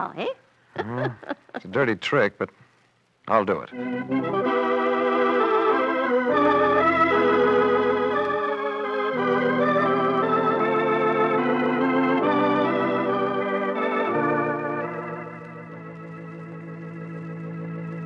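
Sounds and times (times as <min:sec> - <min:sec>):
organ chords: 0:03.3 - 0:18.0.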